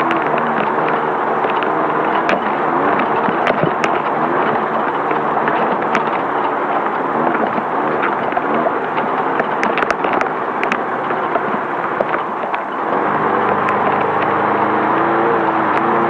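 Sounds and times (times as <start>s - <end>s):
chassis clicks and knocks: 0.0s - 14.4s
engine revving: 0.0s - 16.0s.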